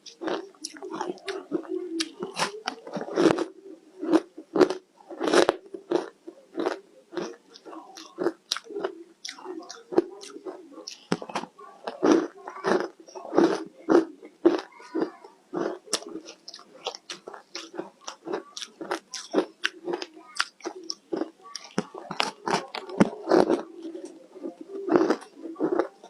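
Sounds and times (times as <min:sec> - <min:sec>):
ice being chewed: 0:00.0 - 0:24.1, 0:24.9 - 0:26.0.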